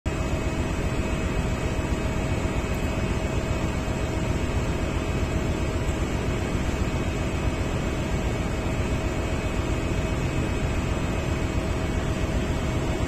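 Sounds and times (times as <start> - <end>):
ship engine room machinery: 0.1 - 13.0.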